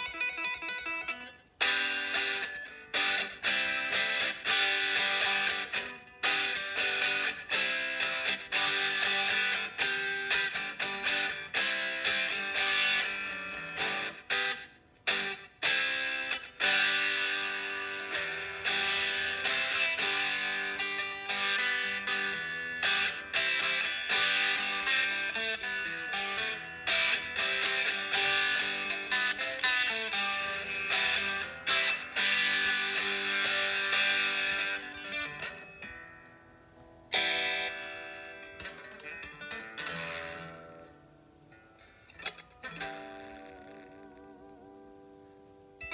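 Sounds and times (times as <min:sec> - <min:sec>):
electric guitar strumming chords: 0:00.0 - 0:45.9.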